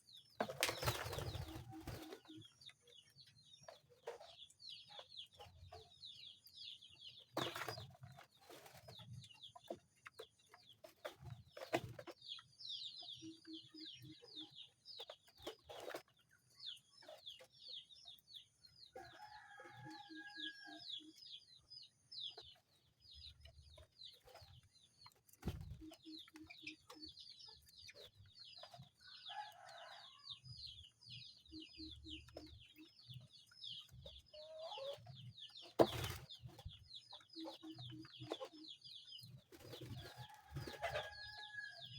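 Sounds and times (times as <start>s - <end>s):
chickens clucking: 0.0s - 41.9s
chicks peeping: 0.0s - 41.9s.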